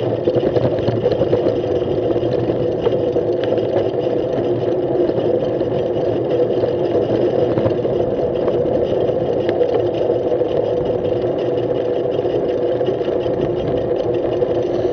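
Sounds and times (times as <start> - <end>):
bicycle tyres and wind rushing: 0.0 - 14.9.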